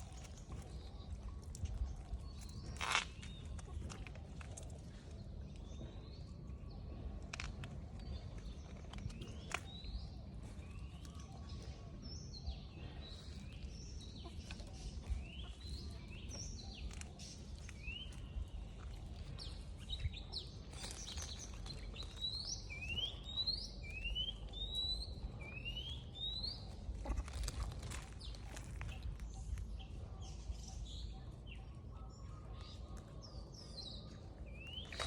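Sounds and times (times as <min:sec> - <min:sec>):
birds chirping: 0:00.0 - 0:35.0
steady low rumble: 0:00.0 - 0:35.0.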